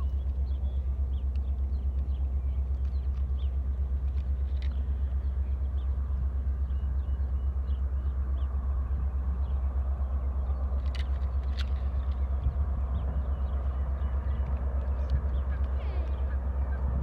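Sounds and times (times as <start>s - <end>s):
low pulsing motor rumble: 0.0s - 17.0s
small birds chirping: 0.0s - 17.0s.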